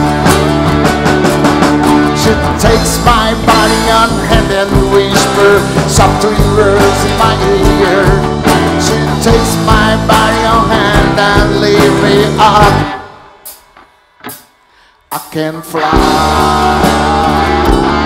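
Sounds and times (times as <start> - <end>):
electric bass: 0.0 - 13.1, 15.9 - 18.0
drum kit beat: 0.0 - 18.0
guitars: 0.0 - 18.0.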